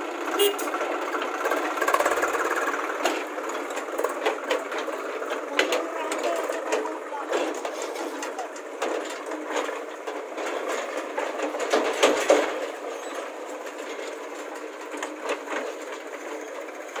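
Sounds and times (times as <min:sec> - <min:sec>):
backhoe loader working: 0:00.0 - 0:17.0
tractor engine chugging: 0:00.0 - 0:17.0.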